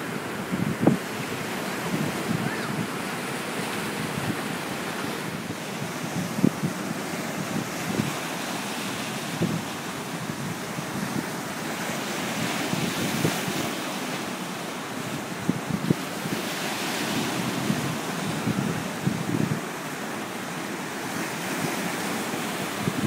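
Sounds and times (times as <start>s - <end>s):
wind buffeting microphone: 0.3s - 13.8s, 15.0s - 19.8s, 21.2s - 23.0s.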